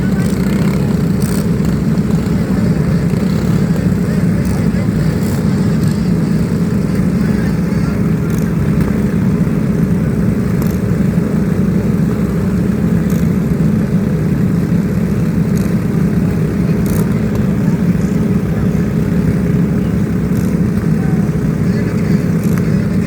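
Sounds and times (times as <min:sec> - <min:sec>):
motor vehicle rumbling: 0:00.0 - 0:23.0.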